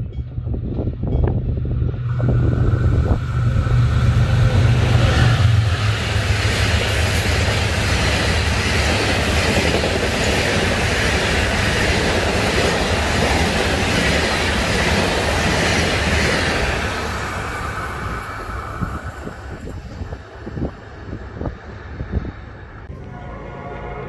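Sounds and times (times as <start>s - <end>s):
train wheels rushing on rails: 0.0s - 24.0s.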